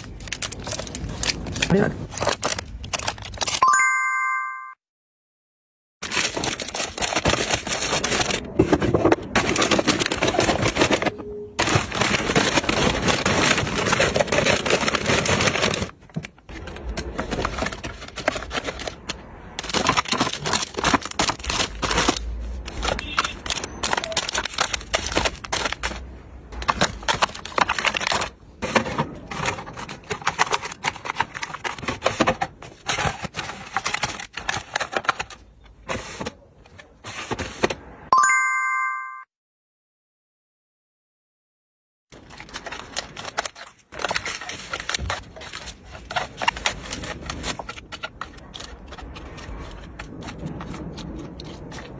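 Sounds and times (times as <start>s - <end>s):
plastic wrappers crinkling: 0.0s - 3.6s, 6.0s - 36.3s, 42.1s - 51.9s.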